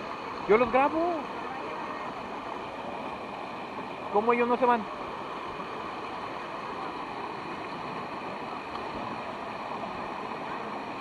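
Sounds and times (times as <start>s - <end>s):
water rushing over waterfall ledges: 0.0s - 11.0s.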